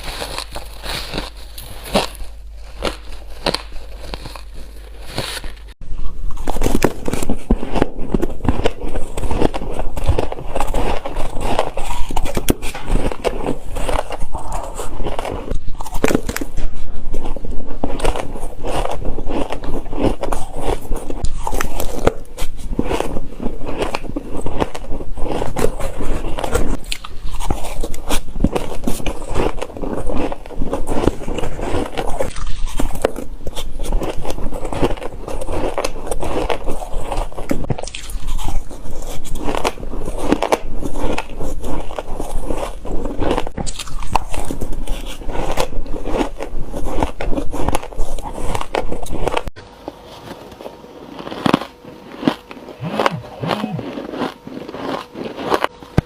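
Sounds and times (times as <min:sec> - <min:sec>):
chewing crunchy shaved ice: 0:00.0 - 0:56.0.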